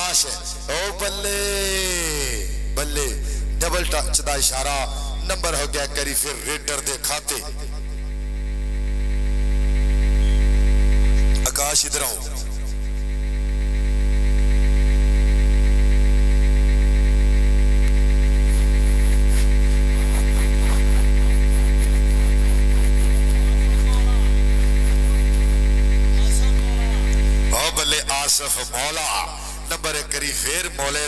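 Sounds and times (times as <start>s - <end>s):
loud electrical mains hum: 0.0s - 31.0s.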